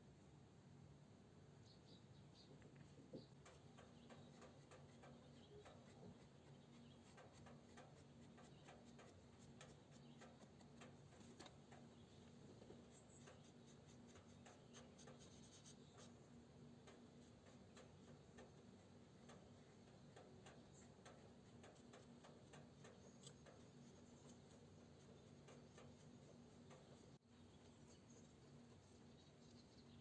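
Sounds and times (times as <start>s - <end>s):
low steady hum: 0.0s - 30.0s
small clicks and light scratching: 2.4s - 30.0s.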